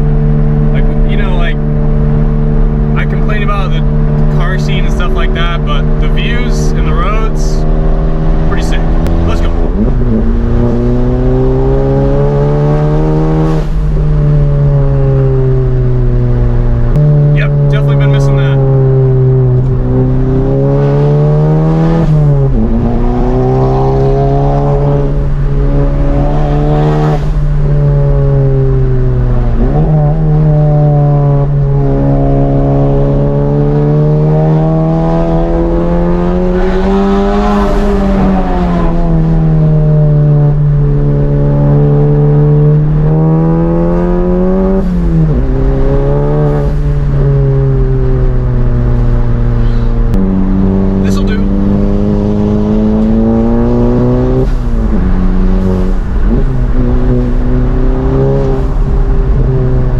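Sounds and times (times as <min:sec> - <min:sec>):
car engine revving under load: 0:00.0 - 0:59.9.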